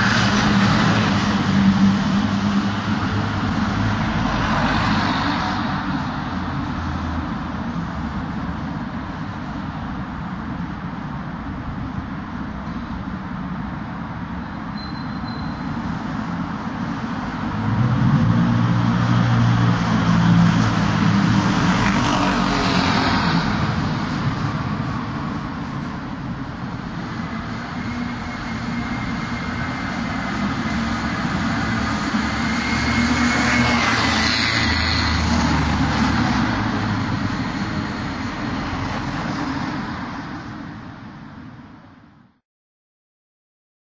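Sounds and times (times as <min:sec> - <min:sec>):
road traffic passing: 0:00.0 - 0:42.4.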